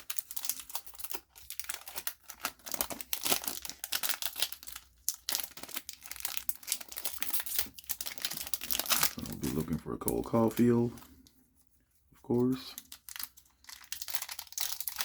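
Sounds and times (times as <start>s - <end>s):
card pack wrapper crinkling and tearing: 0.0s - 11.3s, 12.3s - 15.0s.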